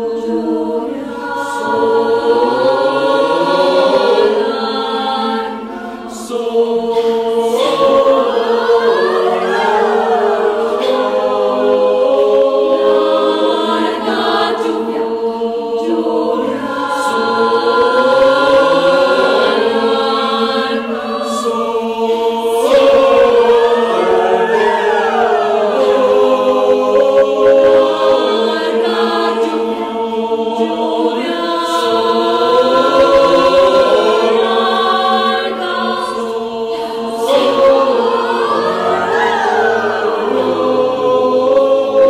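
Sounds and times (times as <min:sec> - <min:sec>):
choir singing: 0:00.0 - 0:42.0.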